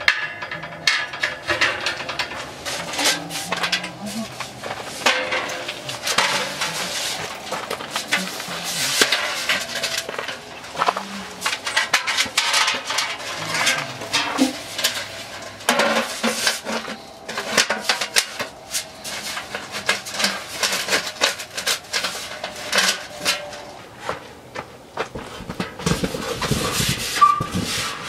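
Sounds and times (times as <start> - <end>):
metal stovepipe clanking: 0.0 - 23.8.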